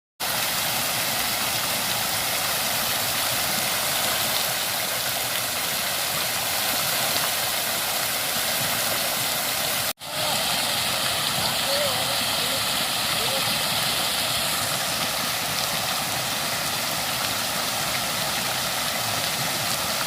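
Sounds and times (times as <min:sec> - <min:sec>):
fountain water rushing: 0:00.2 - 0:20.0.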